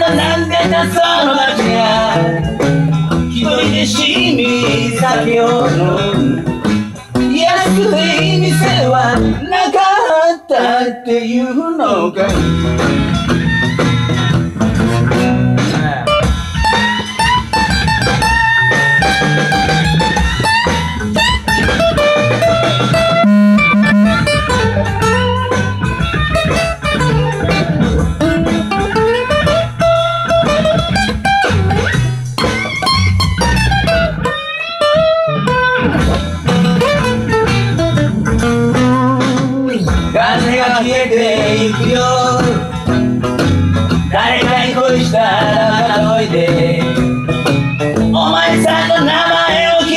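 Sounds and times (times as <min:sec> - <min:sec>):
acoustic guitar blues picking: 0:00.0 - 0:09.8, 0:12.3 - 0:25.5, 0:26.1 - 0:49.9.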